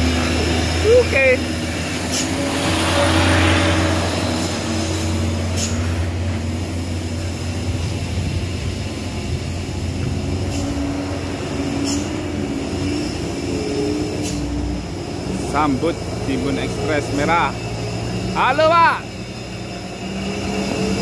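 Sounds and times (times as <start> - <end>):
diesel truck engines running: 0.0 - 21.0
truck passing close by: 0.0 - 21.0.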